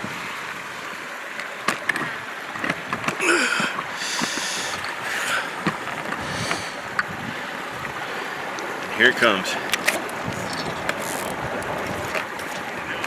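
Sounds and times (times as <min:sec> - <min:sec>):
stream water rushing and splashing: 0:00.0 - 0:13.0.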